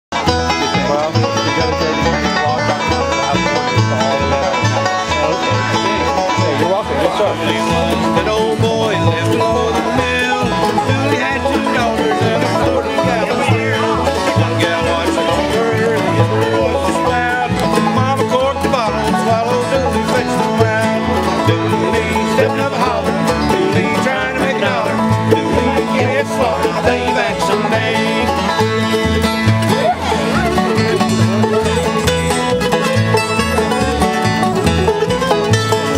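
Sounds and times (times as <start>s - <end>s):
acoustic guitar picking: 0.1s - 35.9s
mandolin picking: 0.1s - 35.9s
upright bass plucking: 0.1s - 35.9s.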